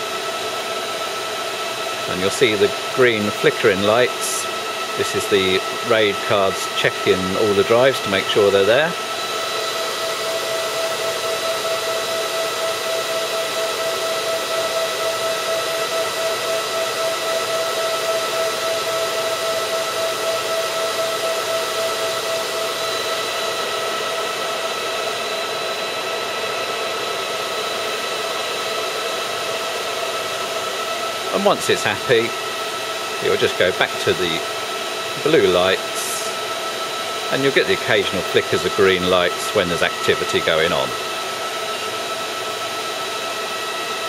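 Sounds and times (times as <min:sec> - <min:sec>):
server cooling fans whining: 0:00.0 - 0:44.0.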